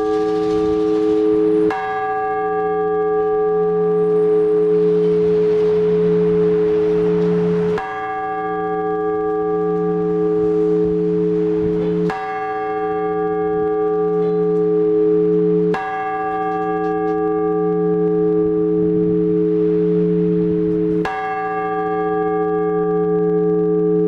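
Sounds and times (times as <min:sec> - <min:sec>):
church bell tolling: 0:00.0 - 0:24.0
low bell hum: 0:00.0 - 0:24.0.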